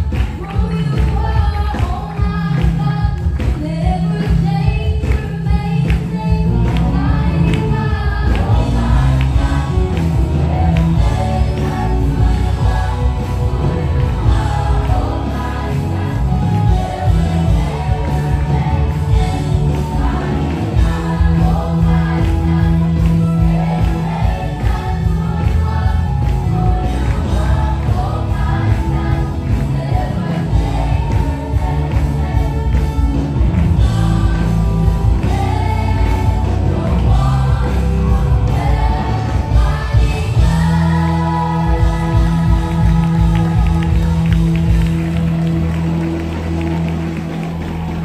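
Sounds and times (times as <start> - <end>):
choir singing gospel song: 0.0 - 48.0.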